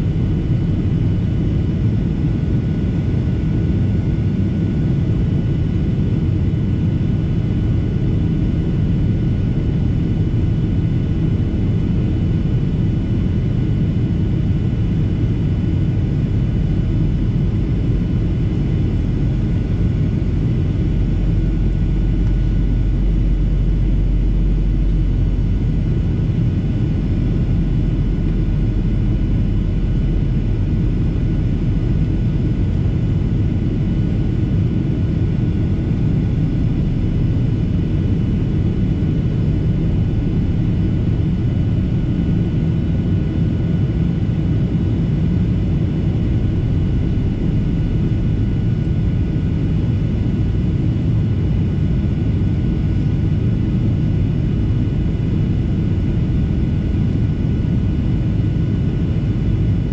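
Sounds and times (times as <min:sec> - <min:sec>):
faint steady whines: 0:00.0 - 0:59.9
jet engines rumbling: 0:00.0 - 0:59.9.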